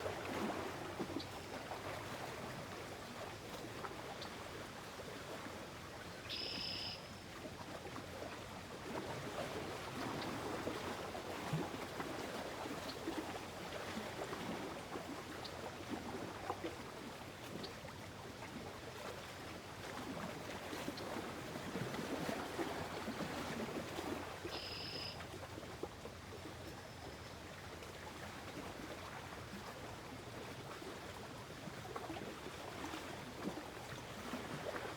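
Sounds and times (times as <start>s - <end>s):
small waves lapping: 0.0s - 34.9s.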